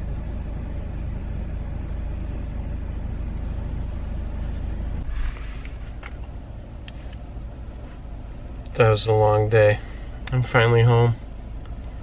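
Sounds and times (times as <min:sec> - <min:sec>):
car road rumble from inside: 0:00.0 - 0:12.0.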